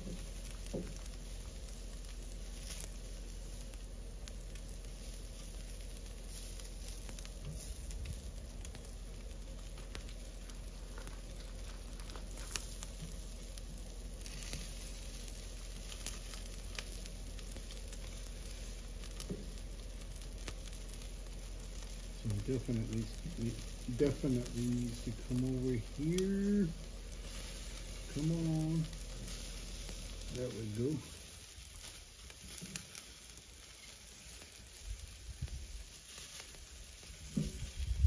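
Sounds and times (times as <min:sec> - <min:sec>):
crackles and pops: 0:00.0 - 0:38.0
meat sizzling on grill: 0:00.0 - 0:38.0.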